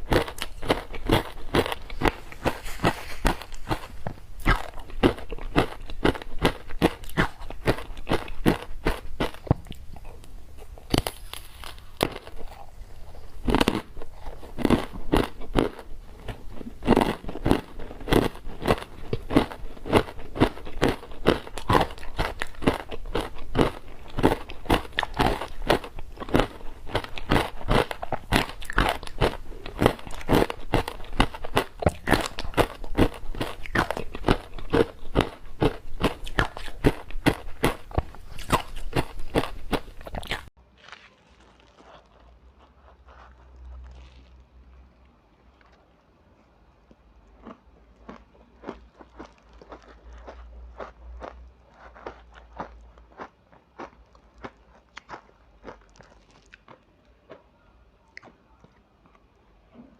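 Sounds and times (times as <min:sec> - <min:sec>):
ice crunching while chewed: 0:00.0 - 0:46.1, 0:46.8 - 0:57.5.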